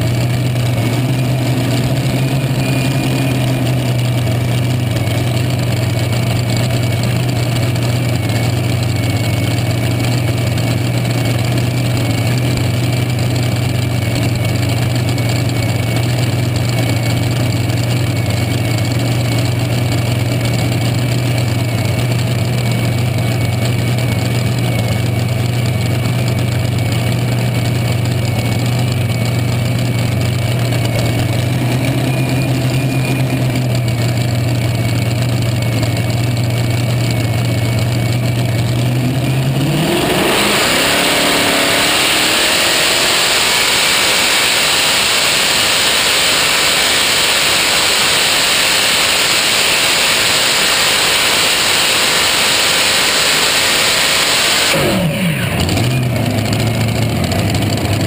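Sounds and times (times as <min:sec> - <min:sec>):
tractor engine idling and revving: 0:00.0 - 0:58.0.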